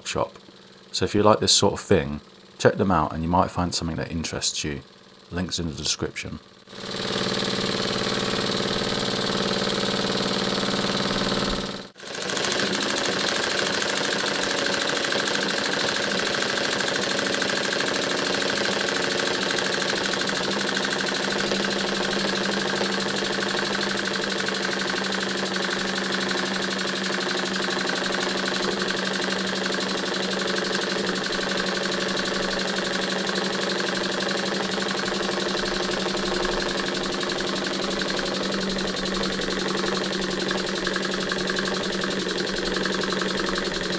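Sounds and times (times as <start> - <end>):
oscillating cylinder clicking: 6.6 - 43.9.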